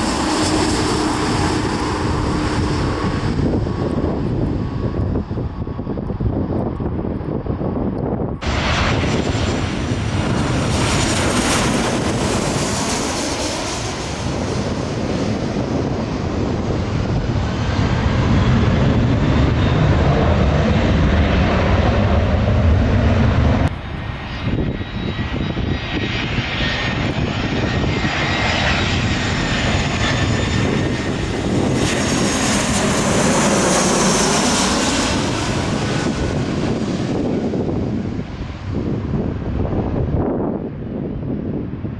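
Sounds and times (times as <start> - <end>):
jet airliner passing overhead: 0.0 - 41.9.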